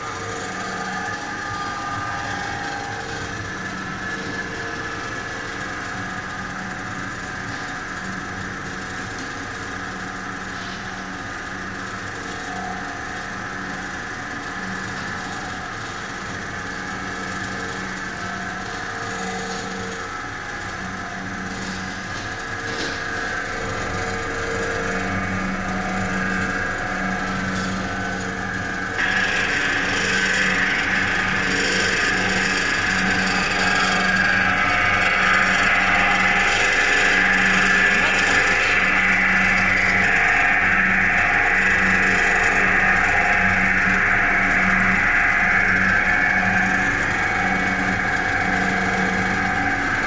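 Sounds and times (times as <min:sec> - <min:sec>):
extruder machine humming and whining: 0:00.0 - 0:50.0.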